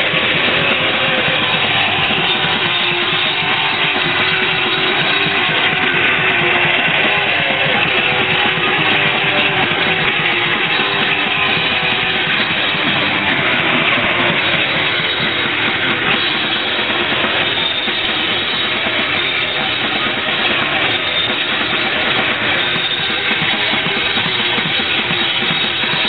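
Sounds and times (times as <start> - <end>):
bass guitar: 0.0 - 26.0
distorted guitars: 0.0 - 26.0
drums: 0.0 - 26.0.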